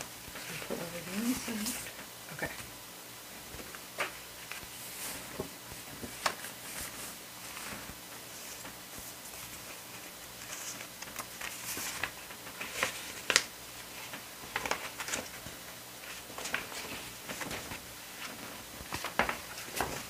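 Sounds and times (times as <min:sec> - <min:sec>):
paper rustling: 0:00.3 - 0:02.7, 0:03.5 - 0:20.0.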